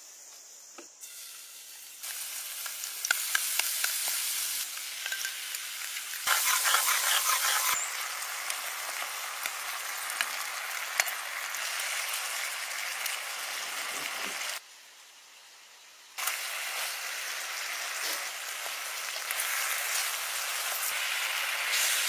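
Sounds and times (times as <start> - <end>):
chicken sizzling in pan: 1.0 - 22.0.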